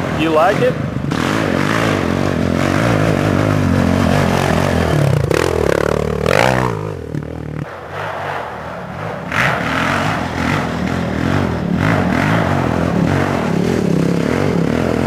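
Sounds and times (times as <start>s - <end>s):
quad engine revving: 0.0s - 7.7s, 9.3s - 15.0s.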